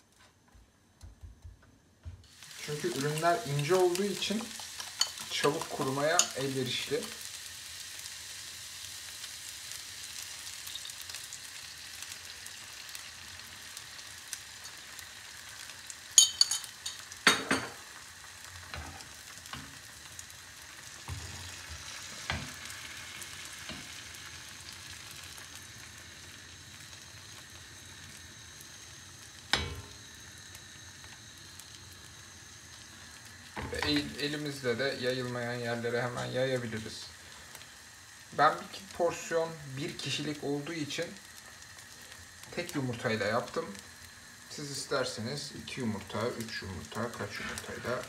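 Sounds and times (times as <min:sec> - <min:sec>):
food sizzling in a pan: 0:02.0 - 0:48.0.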